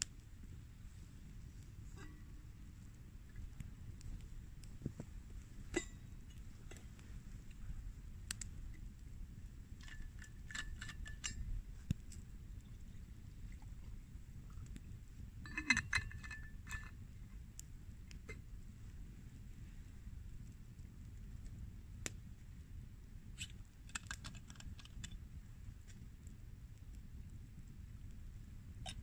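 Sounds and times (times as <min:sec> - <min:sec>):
low steady rumble: 0:00.0 - 0:23.9, 0:24.7 - 0:29.0.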